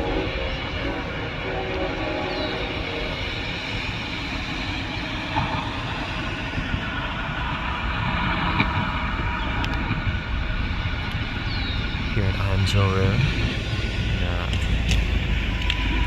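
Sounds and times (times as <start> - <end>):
freight train rumbling past: 0.0 - 16.0
wheels clicking on rails: 0.0 - 16.0.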